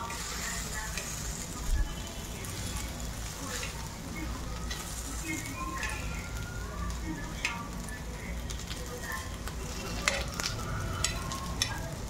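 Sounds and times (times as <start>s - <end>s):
metal tongs clicking against pan: 0.0s - 1.4s, 2.4s - 12.0s
soya chunks sizzling on a griddle: 0.0s - 12.0s.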